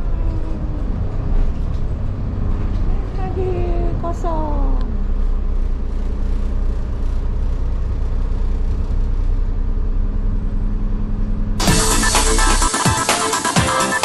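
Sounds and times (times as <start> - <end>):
constant low hum: 0.0 - 12.4
train rumbling: 0.0 - 14.0.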